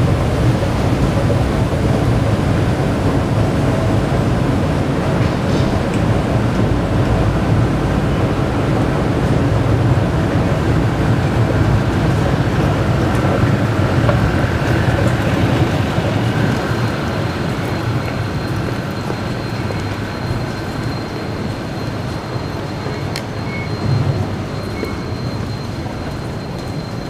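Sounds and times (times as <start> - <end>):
rumbling station ambience: 0.0 - 27.0.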